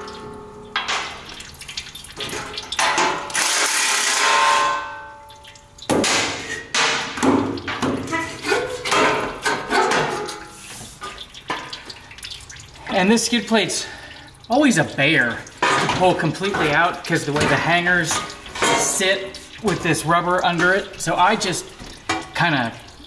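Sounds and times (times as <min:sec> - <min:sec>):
oil dripping into pan: 0:00.0 - 0:23.0.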